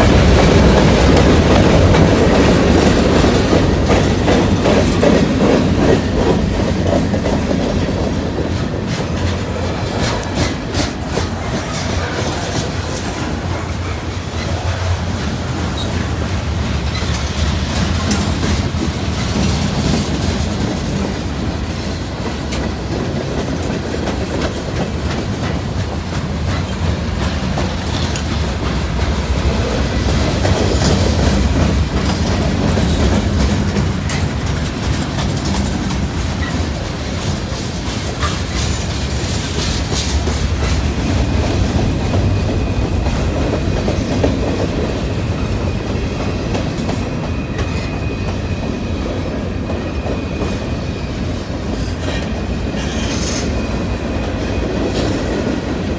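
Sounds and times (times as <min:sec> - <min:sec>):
train wheels rumbling on rail: 0:00.0 - 0:55.9
wheels clicking over rail joints: 0:00.0 - 0:55.9.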